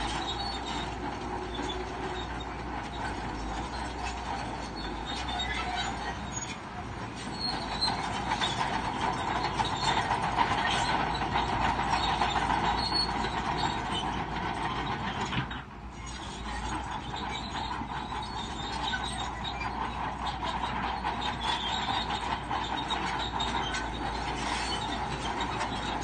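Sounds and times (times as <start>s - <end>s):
bulldozer tracks clanking and squealing: 0.0s - 26.0s
low engine rumble: 0.0s - 26.0s.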